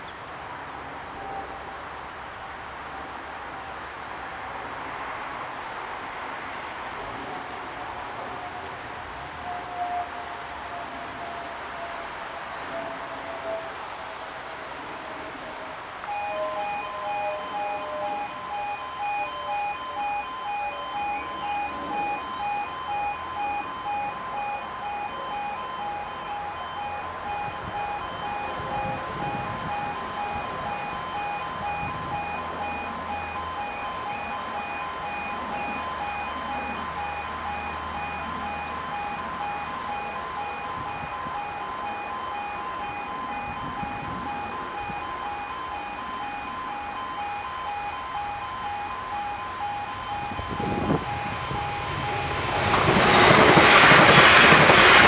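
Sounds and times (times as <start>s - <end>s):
level crossing warning alarm: 6.2s - 55.0s.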